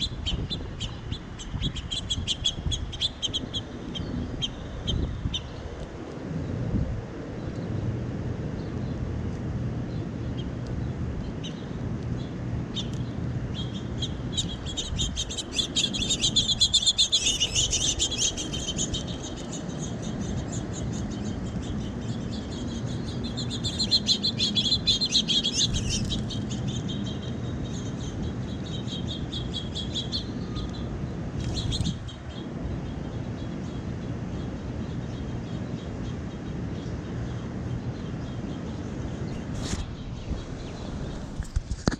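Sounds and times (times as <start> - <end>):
small birds chirping: 0.0 - 41.6
low background rumble: 0.0 - 41.7.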